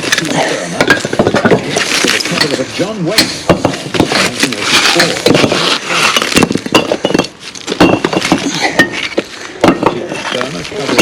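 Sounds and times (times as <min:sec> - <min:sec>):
bricks knocking and clinking: 0:00.0 - 0:11.0.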